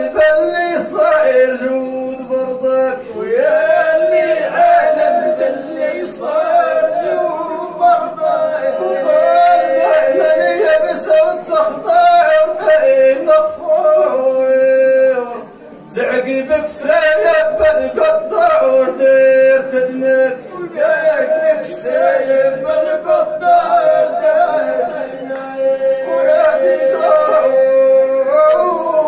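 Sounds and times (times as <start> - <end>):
men singing devotional chant: 0.0 - 29.0.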